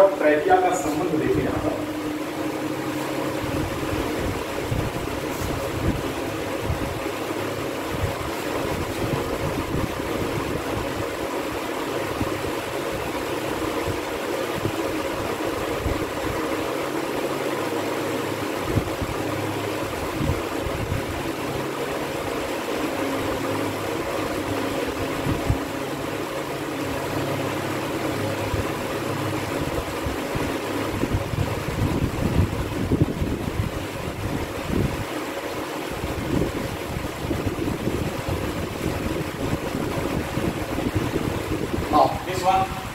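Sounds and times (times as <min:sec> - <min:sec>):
machine hum: 0:00.0 - 0:42.9.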